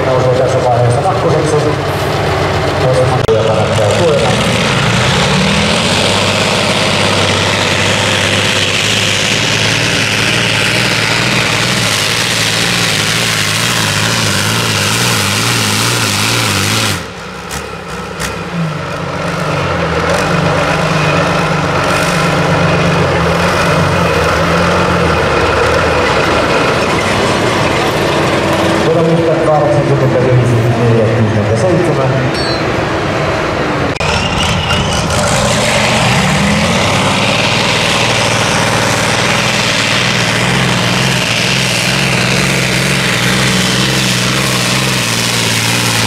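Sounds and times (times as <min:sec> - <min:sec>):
tractor engine running hard: 0:00.0 - 0:46.0.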